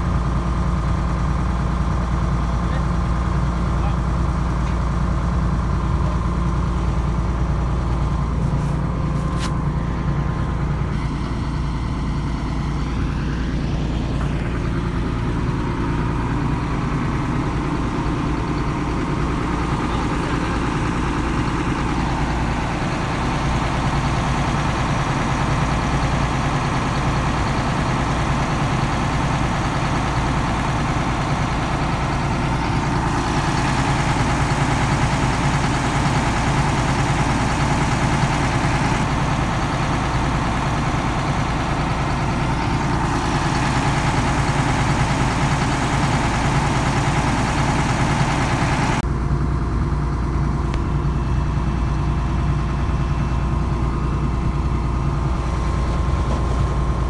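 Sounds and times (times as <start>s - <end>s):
diesel engine running: 0.0s - 57.0s
excavator working whine: 0.0s - 57.0s.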